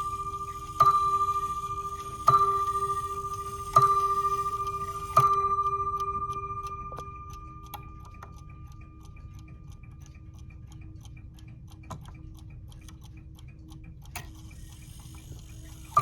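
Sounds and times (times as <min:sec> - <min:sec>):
clock ticking: 0:00.0 - 0:16.0.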